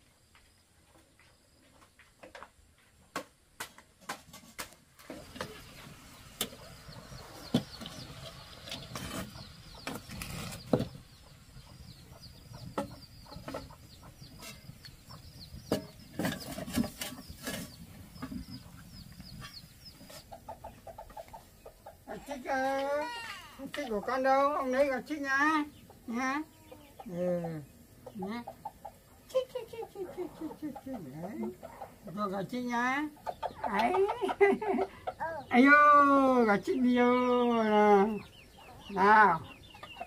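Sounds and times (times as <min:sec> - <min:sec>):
chickens clucking: 0:03.1 - 0:40.0.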